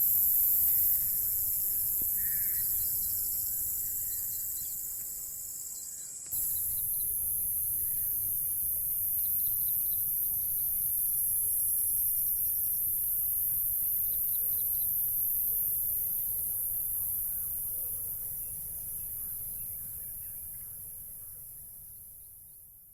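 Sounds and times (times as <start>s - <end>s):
high-pitched insect chorus chirring: 0.0s - 22.4s.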